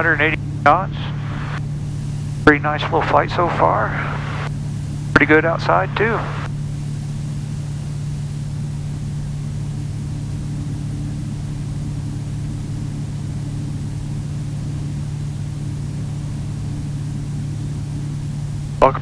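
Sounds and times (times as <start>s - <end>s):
propeller plane engines droning: 0.0s - 19.0s.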